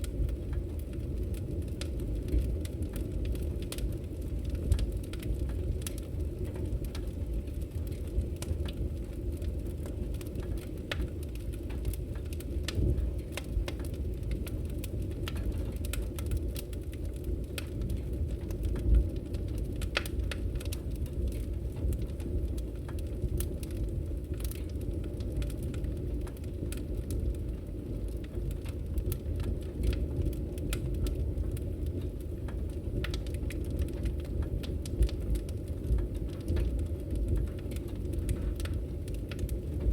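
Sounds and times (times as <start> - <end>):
fire crackling and popping: 0.0 - 39.9
fire flames rumbling: 0.0 - 39.9.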